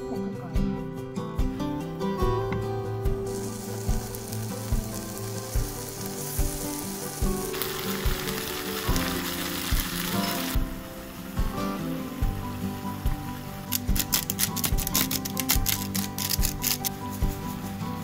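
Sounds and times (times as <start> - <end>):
food sizzling in frying pan: 3.2 - 18.0.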